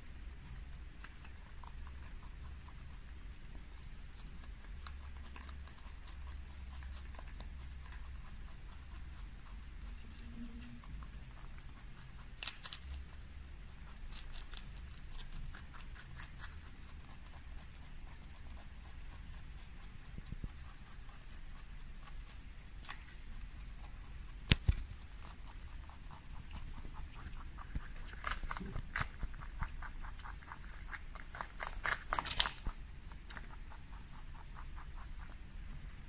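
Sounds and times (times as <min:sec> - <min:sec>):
low steady rumble: 0:00.0 - 0:36.0
rabbit chewing leaves: 0:00.0 - 0:36.0.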